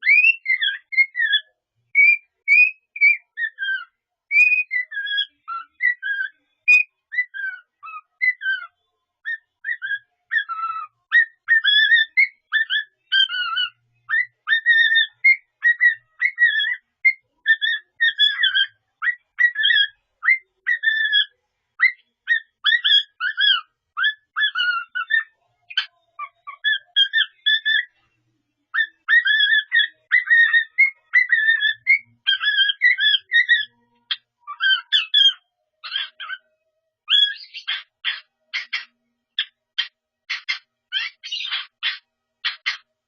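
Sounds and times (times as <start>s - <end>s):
cockatiel whistling: 0.0s - 8.7s, 9.3s - 27.9s, 28.7s - 36.4s, 37.1s - 42.8s.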